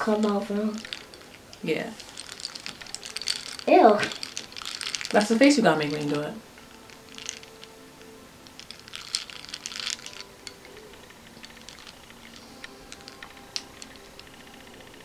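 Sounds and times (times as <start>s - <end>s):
small plastic things clicking: 0.0s - 15.0s.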